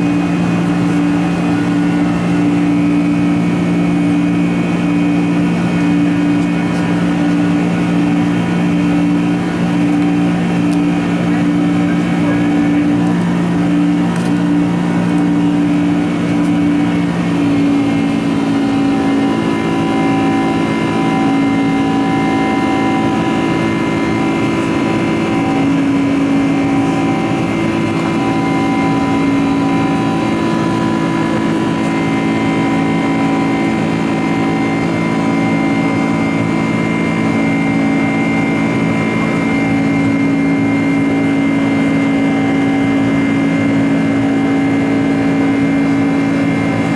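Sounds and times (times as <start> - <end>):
jet engines roaring in cabin: 0.0 - 46.9.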